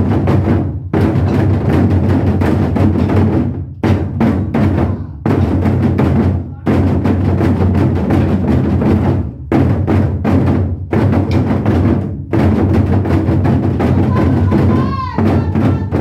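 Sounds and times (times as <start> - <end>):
barrel drums beaten with sticks: 0.0 - 16.0.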